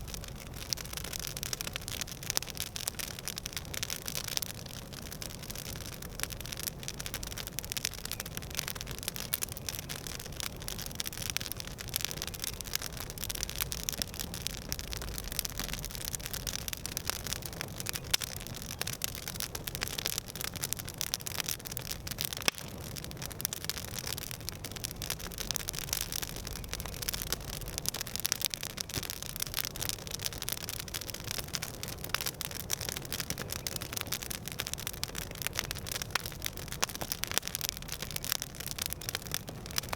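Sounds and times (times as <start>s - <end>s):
campfire crackling: 0.0s - 39.9s
hiss of burning wood: 0.0s - 39.9s.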